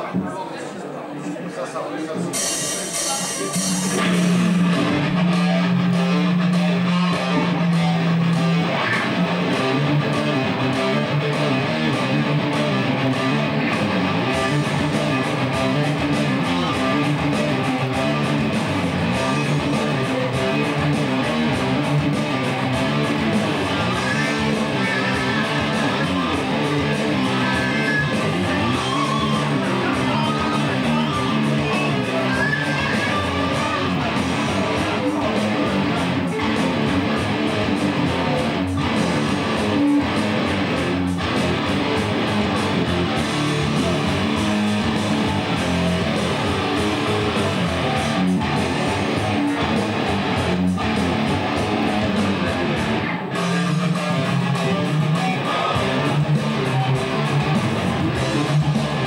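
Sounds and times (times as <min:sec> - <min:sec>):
loud electric guitars: 0:02.0 - 0:59.0.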